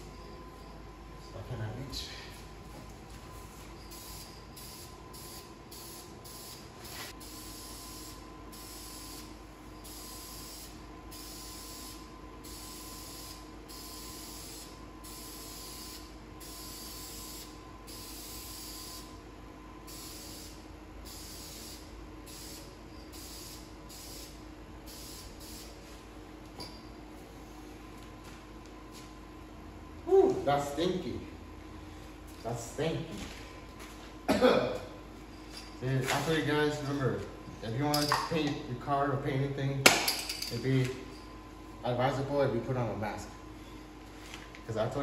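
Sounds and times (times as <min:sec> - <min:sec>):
steady hum: 0:00.0 - 0:45.0.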